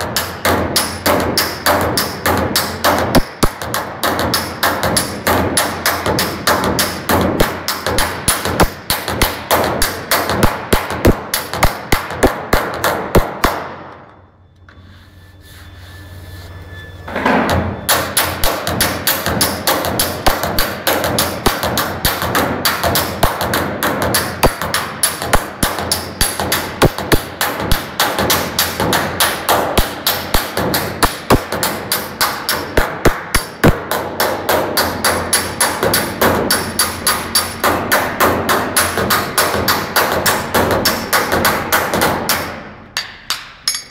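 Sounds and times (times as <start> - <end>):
hammer beating sheet metal: 0.0 - 14.2, 17.1 - 43.9.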